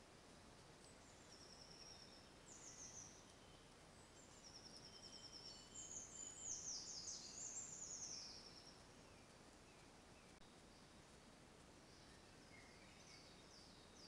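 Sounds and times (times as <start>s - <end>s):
steady low hiss: 0.0s - 14.0s
songbirds trilling and whistling: 0.8s - 10.9s, 11.8s - 14.0s.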